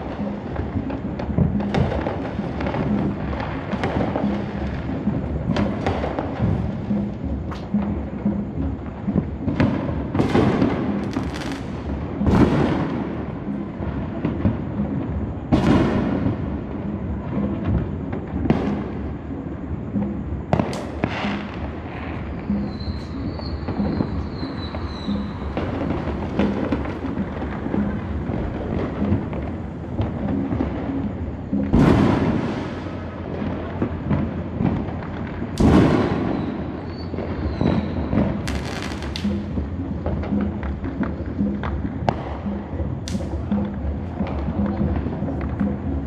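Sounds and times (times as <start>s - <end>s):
fireworks sharp echoing bangs: 0.0s - 46.0s
rumble of distant booms: 0.0s - 46.0s.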